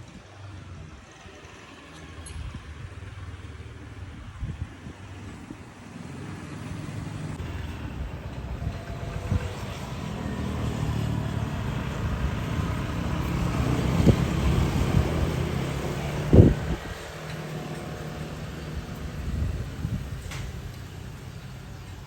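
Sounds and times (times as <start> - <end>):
vehicle engine running: 0.4 - 22.0.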